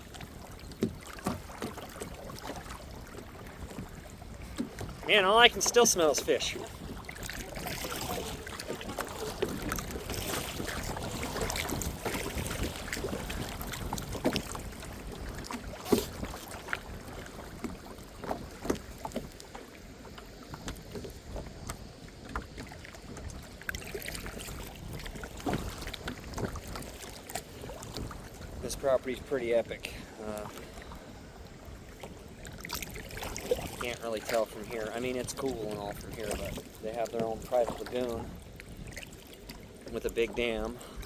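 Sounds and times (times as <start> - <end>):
paddle strokes splashing water: 0.0 - 41.0.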